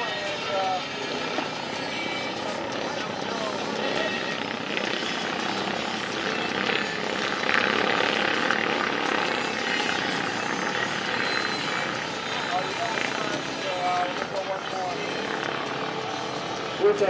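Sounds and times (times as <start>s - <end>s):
kart engines racing: 0.0s - 17.0s.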